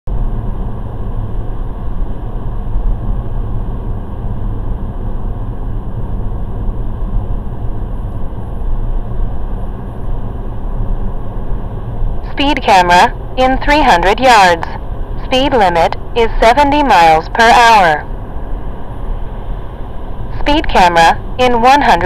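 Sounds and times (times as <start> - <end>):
car road and engine noise: 0.1 - 22.0.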